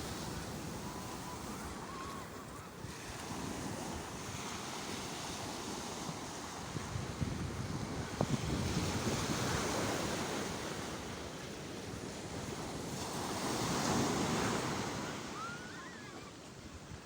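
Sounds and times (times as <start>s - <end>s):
sea waves breaking: 0.0s - 16.6s.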